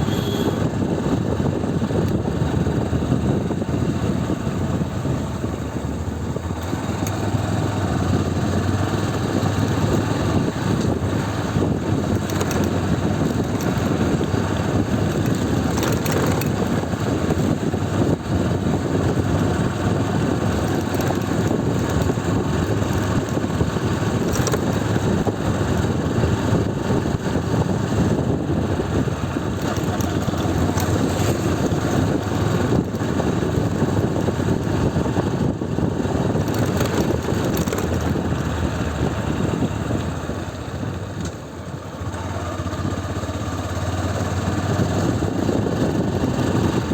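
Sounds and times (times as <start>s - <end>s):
motorcycle engine running: 0.0s - 46.9s
road noise: 0.0s - 46.9s.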